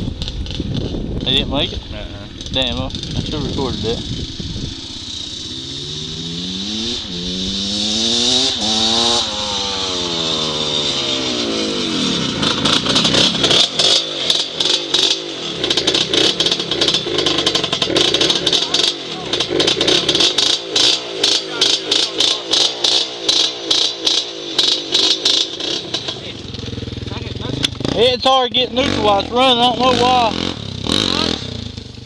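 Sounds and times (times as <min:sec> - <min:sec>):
off-road engine revving: 0:00.0 - 0:32.0.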